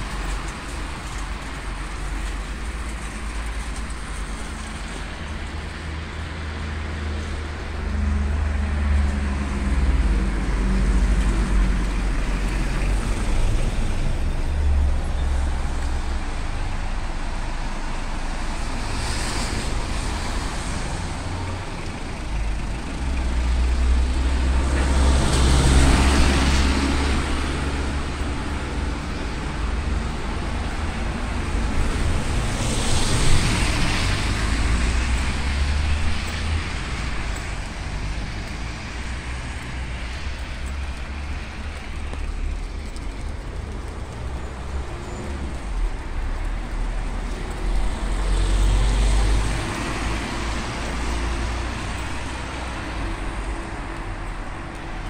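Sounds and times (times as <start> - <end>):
tyres hissing on wet road: 0.0 - 43.3, 44.0 - 55.0
street traffic on wet road: 0.0 - 55.0.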